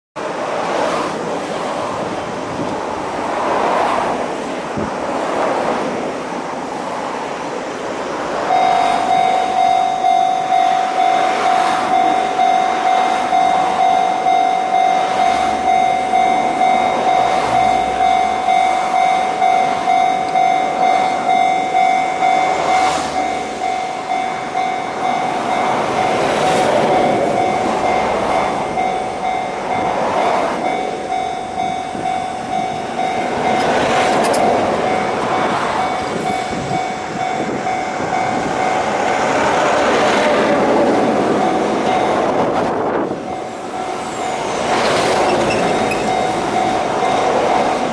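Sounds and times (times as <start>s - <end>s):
wind noise on microphone: 0.2s - 10.7s, 11.4s - 47.9s
level crossing warning bell: 8.4s - 47.9s.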